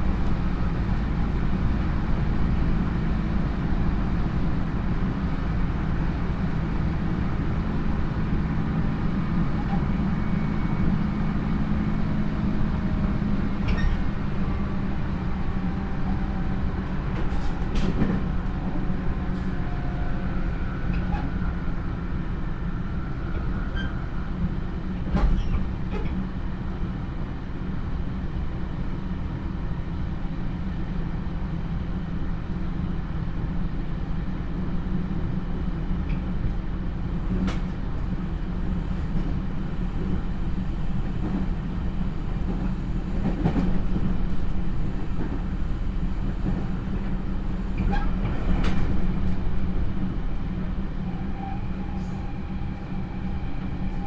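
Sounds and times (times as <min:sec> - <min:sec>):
train wheels rumbling: 0:00.0 - 0:29.5, 0:32.0 - 0:54.0.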